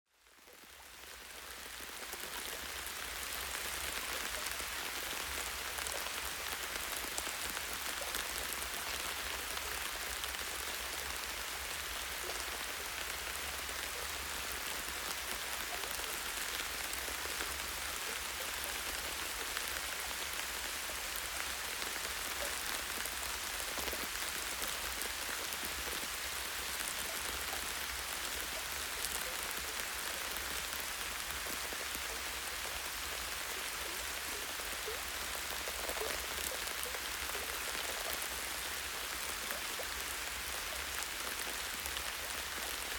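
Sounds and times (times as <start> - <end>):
steady rain hiss: 0.2 - 42.9.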